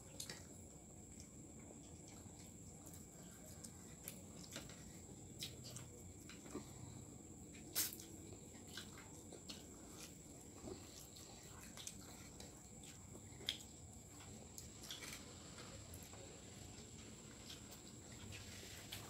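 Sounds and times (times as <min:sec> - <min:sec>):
children chewing and lip-smacking: 0:00.0 - 0:19.0.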